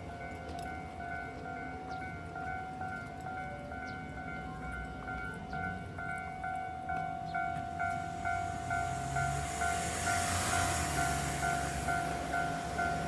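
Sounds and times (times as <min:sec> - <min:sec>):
level-crossing warning bell ringing: 0:00.0 - 0:13.0
train passing with rail noise: 0:00.0 - 0:13.0.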